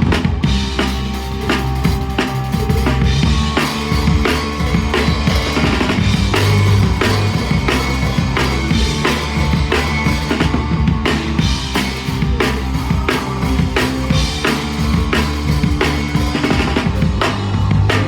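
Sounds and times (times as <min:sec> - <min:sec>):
drum kit beat: 0:00.0 - 0:18.0
punk rock band playing: 0:00.0 - 0:18.0.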